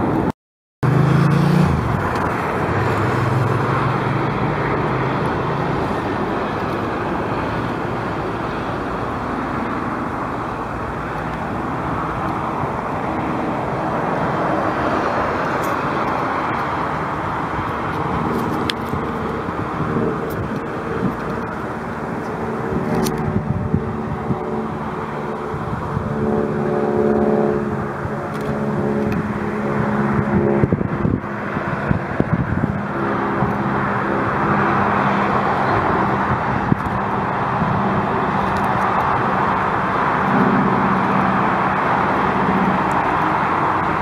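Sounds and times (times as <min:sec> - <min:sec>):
airport and road noise roar: 0:00.0 - 0:44.0.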